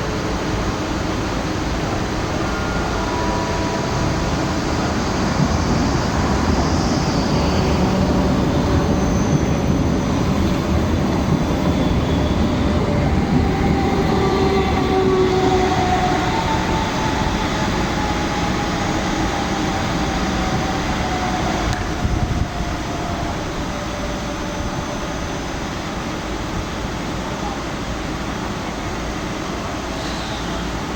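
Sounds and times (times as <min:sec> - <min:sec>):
high squealing of train: 0:00.0 - 0:30.9
train wheels rumbling on rail: 0:00.0 - 0:30.9.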